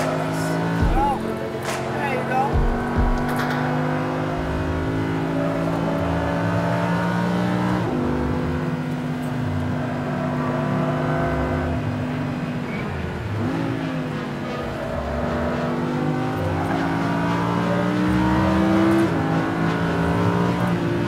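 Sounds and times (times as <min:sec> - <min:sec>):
car engine revving in cabin: 0:00.0 - 0:21.0.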